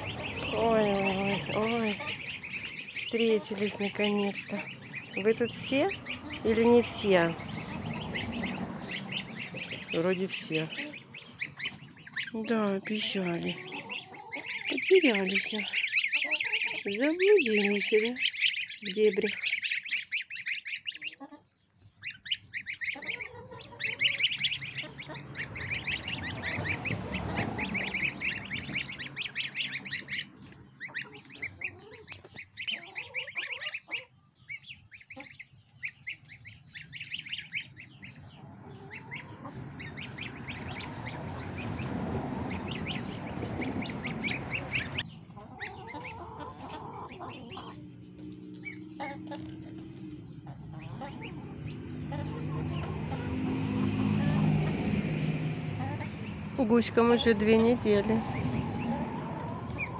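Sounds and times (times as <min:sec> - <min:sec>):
goslings peeping: 0:00.0 - 0:59.9.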